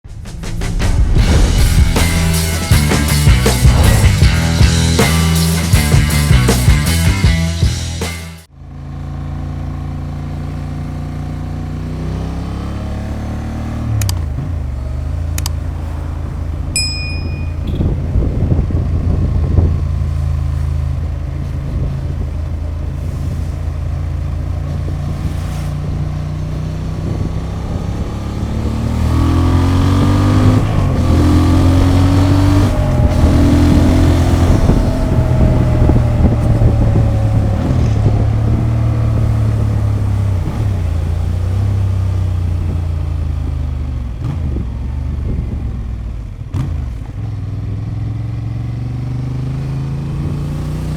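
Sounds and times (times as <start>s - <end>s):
motorcycle engine revving: 0.2s - 50.9s.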